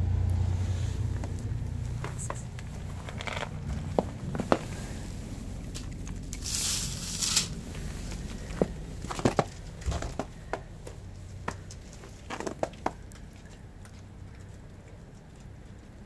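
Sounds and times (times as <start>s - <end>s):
cats crunching kibble: 0.8s - 16.0s.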